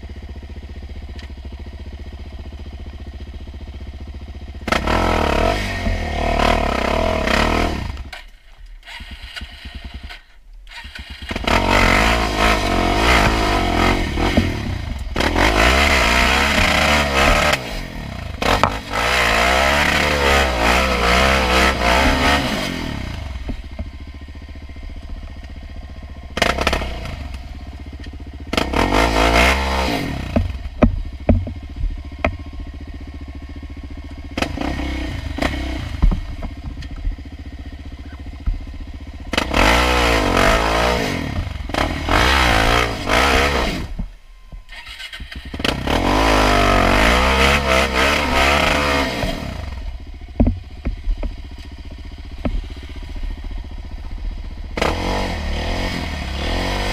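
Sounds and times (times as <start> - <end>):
quad engine revving: 0.0 - 56.9
clatter and knocks on rough trail: 4.6 - 55.9.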